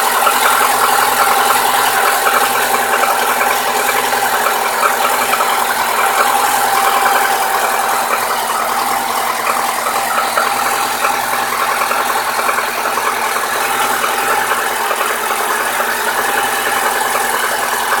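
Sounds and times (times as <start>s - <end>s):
car engine running: 0.0s - 18.0s
rapid ticking engine knock: 0.0s - 18.0s.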